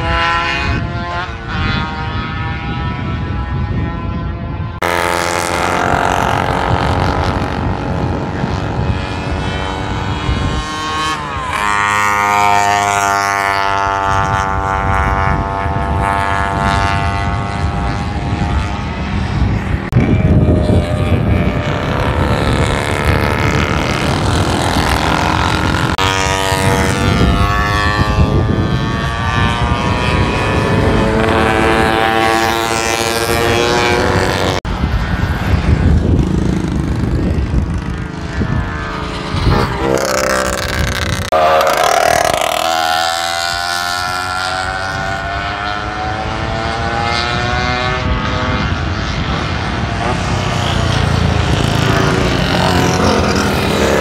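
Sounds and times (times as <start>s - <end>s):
racing motorcycles passing: 0.0s - 54.0s.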